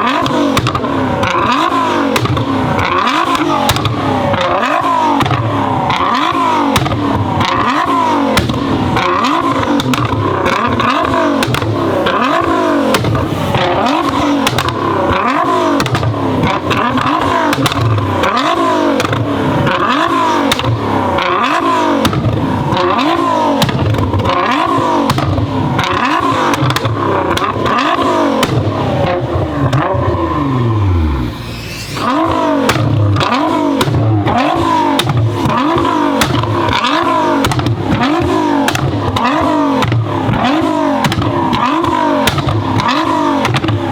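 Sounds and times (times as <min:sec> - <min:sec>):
exhaust pops and crackles: 0:00.0 - 0:30.8, 0:32.0 - 0:43.9
car engine revving: 0:00.0 - 0:43.9.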